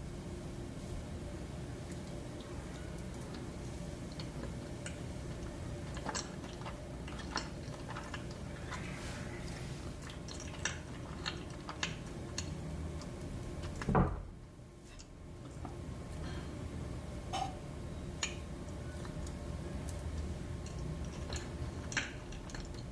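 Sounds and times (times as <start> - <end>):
close eating sounds: 1.8 - 13.9, 14.8 - 22.9.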